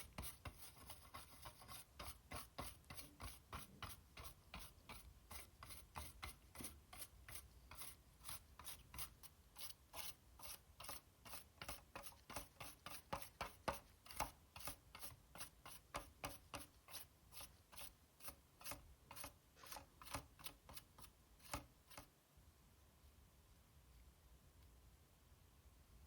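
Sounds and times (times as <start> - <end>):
brush scrubbing circuit board: 0.0 - 22.1.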